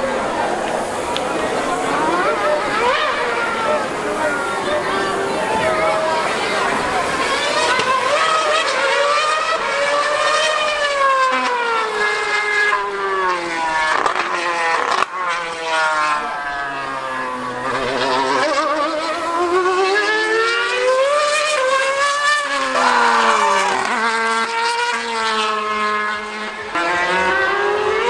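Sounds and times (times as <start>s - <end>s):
racing car engine screaming: 0.0s - 28.0s.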